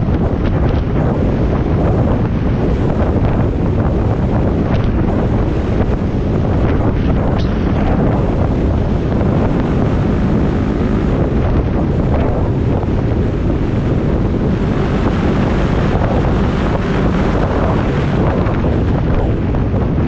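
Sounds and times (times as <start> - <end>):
motorcycle engine running: 0.0 - 20.0
wind rushing on microphone: 0.0 - 20.0.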